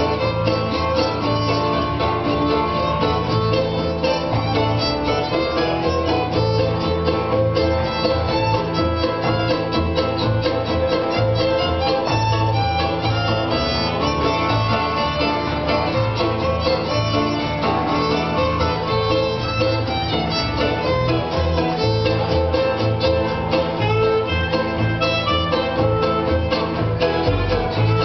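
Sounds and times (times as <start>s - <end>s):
acoustic jazz band playing: 0.0s - 28.0s
low bass notes: 0.0s - 28.0s.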